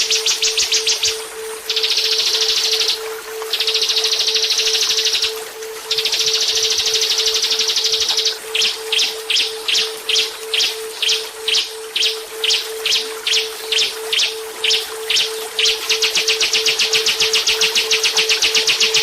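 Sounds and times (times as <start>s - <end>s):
low pulsing tone: 0.0s - 19.0s
songbird buzzing trill: 0.0s - 19.0s
songbird high call notes: 0.0s - 19.0s.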